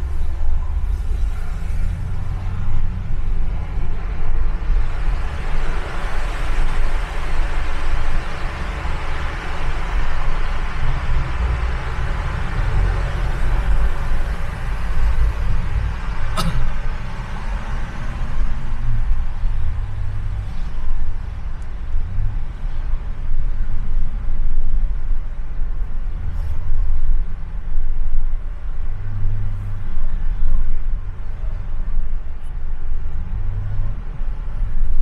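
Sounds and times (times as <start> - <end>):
car road noise rumble: 0.0 - 35.0
passing traffic: 0.0 - 35.0.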